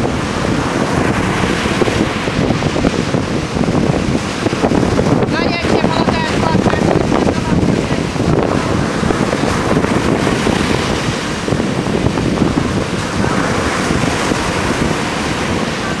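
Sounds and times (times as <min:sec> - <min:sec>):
waves breaking on beach: 0:00.0 - 0:16.0
wind buffeting microphone: 0:00.0 - 0:16.0.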